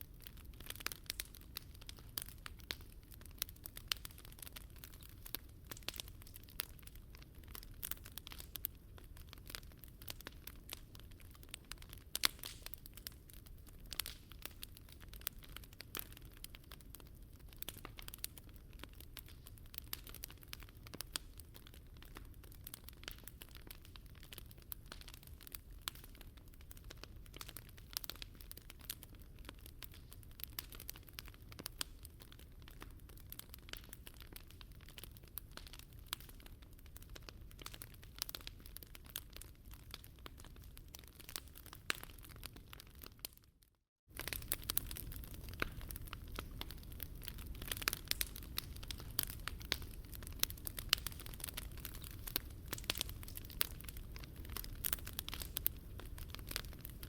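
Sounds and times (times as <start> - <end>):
low fire rumble: 0.0 - 43.1, 44.1 - 57.0
wood fire crackling and popping: 0.0 - 57.0.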